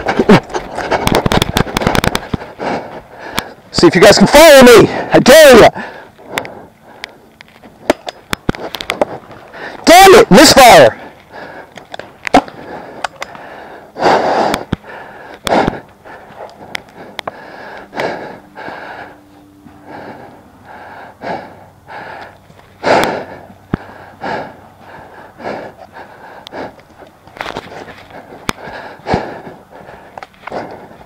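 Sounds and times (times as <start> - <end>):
person breathing heavily: 0.0 - 4.1, 4.8 - 31.0.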